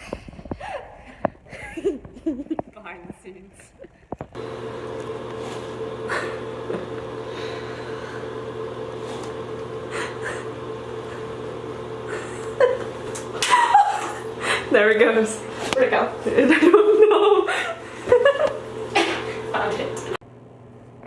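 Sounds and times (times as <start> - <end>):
electrical hum with drone: 0.1 - 21.0.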